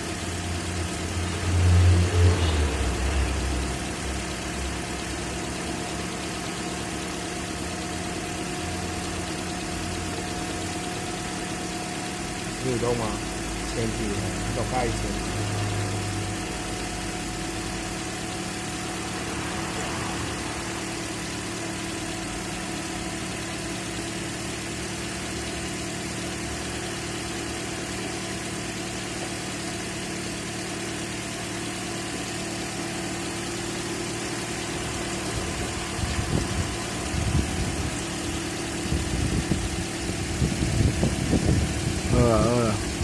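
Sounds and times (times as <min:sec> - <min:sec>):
heavy machinery engine idling: 0:00.0 - 0:43.0.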